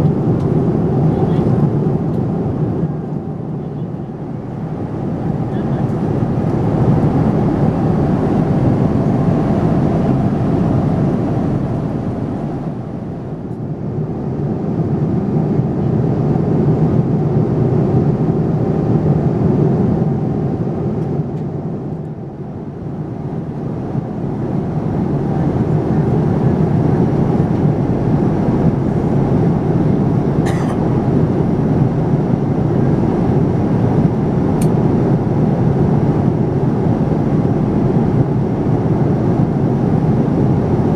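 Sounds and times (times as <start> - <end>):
aircraft cabin engine drone: 0.0 - 40.9.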